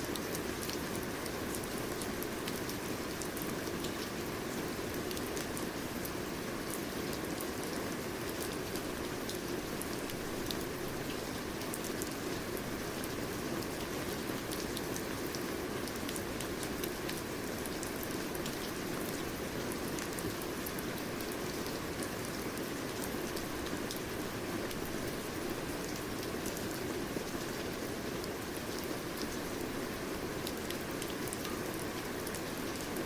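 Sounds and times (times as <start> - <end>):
steady rain pattering: 0.0 - 33.0.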